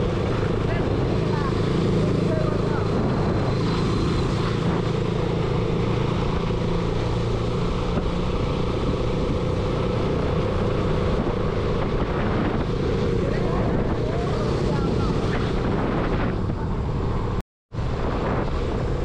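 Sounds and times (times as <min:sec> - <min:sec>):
motorcycle engine running: 0:00.0 - 0:19.0
rushing wind noise: 0:00.0 - 0:19.0.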